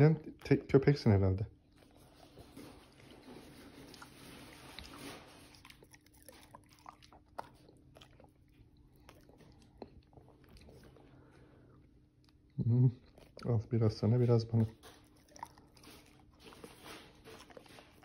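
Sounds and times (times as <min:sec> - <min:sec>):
dog chewing with wet smacks: 0:01.6 - 0:18.0.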